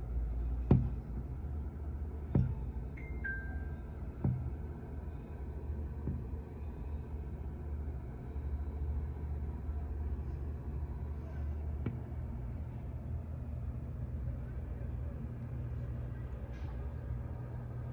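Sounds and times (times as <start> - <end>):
low background rumble: 0.0 - 17.9.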